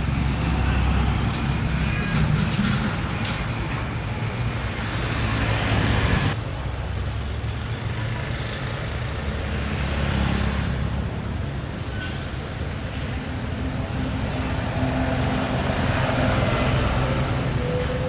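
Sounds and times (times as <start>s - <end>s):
heavy trucks passing: 0.0s - 18.0s
tyre and road noise: 0.0s - 18.0s.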